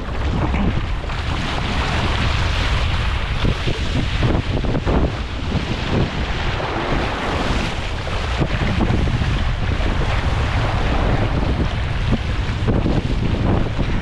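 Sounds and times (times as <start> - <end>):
surf rushing: 0.0 - 14.0
wind buffeting microphone: 0.0 - 14.0.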